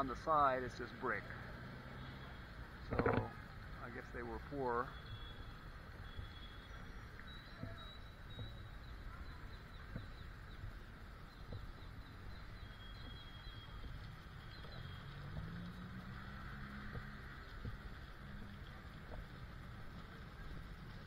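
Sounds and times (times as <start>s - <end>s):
distant traffic rumble: 0.0s - 21.0s
low engine hum: 0.9s - 21.0s
birds chirping: 1.9s - 19.4s.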